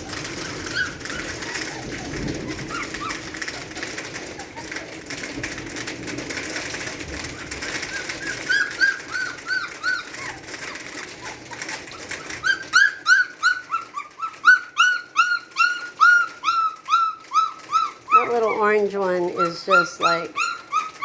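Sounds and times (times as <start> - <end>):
puppy whining: 0.0 - 21.0.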